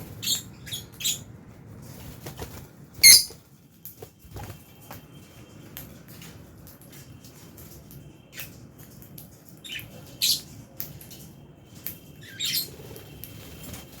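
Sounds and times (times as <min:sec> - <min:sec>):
birds chirping: 0:00.0 - 0:01.5, 0:03.0 - 0:03.4, 0:04.1 - 0:13.9.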